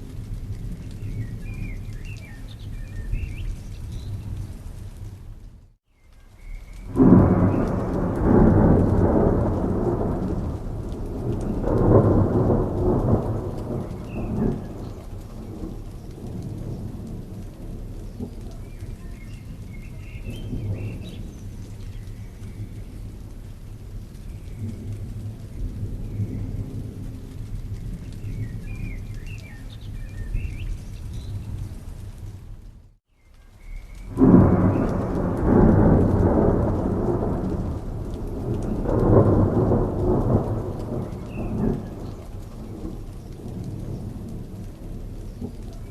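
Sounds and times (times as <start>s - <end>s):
rain falling: 0.0s - 45.9s
thunder rolling: 6.8s - 33.0s, 33.8s - 45.9s.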